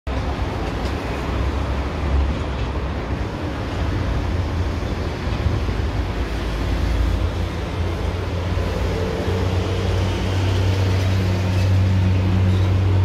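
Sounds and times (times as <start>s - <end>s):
electric train rumbling: 0.1s - 13.0s
outdoor background noise: 0.1s - 13.0s.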